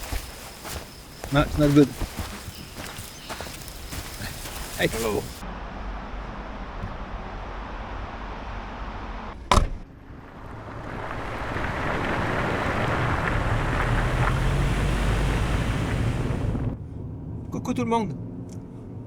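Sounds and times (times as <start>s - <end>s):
rush of noise with low rumble: 0.0s - 17.1s.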